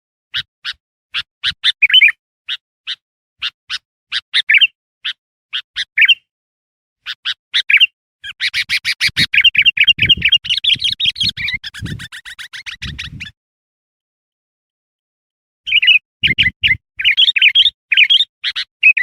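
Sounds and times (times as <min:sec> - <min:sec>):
bird chirping and chattering: 0:00.3 - 0:06.3, 0:07.0 - 0:13.3, 0:15.7 - 0:19.0.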